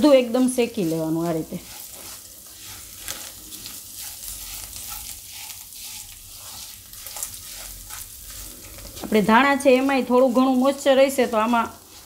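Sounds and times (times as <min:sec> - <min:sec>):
spatula scraping a pan: 0:00.0 - 0:12.0
spices sizzling in hot oil: 0:00.0 - 0:12.0.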